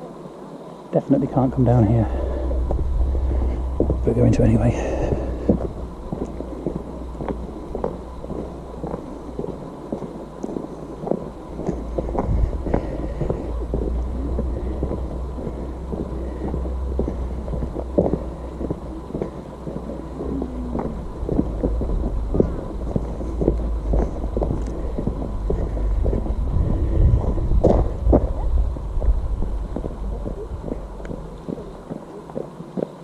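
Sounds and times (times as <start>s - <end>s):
wind buffeting microphone: 1.6s - 33.0s
footsteps knocks and scuffs: 2.6s - 33.0s.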